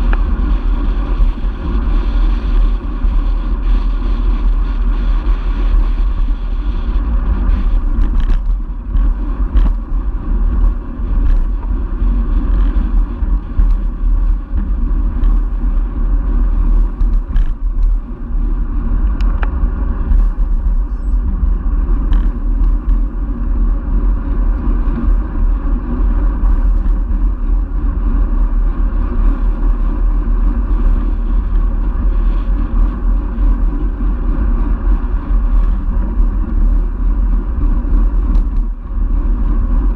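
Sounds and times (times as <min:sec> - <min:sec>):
bike tyres rolling on asphalt: 0:00.0 - 0:39.9
wind rushing over microphone: 0:00.0 - 0:39.9.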